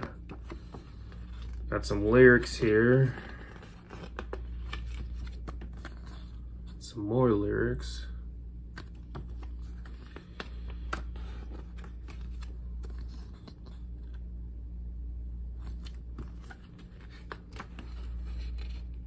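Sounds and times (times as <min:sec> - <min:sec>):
paper pages rustling: 0:00.0 - 0:06.4, 0:08.8 - 0:14.2, 0:15.6 - 0:19.0
steady low hum: 0:00.0 - 0:19.0.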